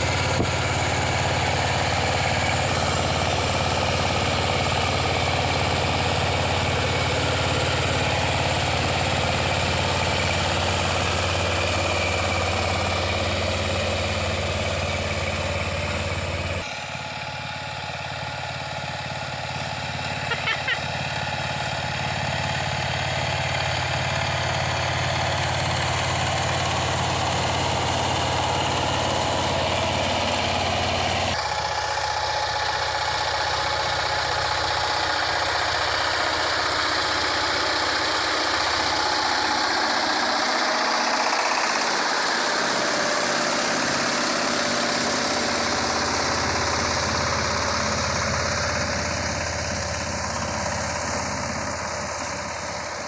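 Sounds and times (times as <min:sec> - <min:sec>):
diesel engine knocking: 0:00.0 - 0:53.0.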